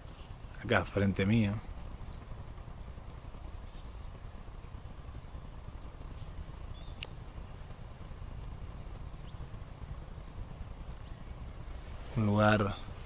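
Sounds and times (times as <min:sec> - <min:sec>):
birds calling with downward notes: 0:00.0 - 0:13.0
low steady rumble: 0:00.0 - 0:13.0.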